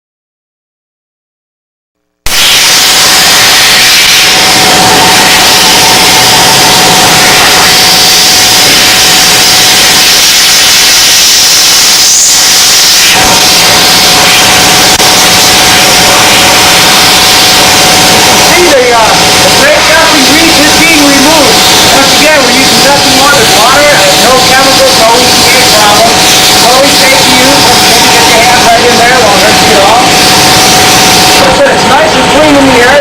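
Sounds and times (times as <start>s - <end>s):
steam cleaner hissing: 4.2s - 31.5s.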